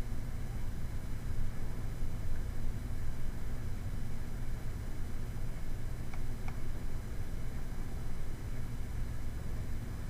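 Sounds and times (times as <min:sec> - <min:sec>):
low rumble with faint hiss: 0:00.0 - 0:10.0.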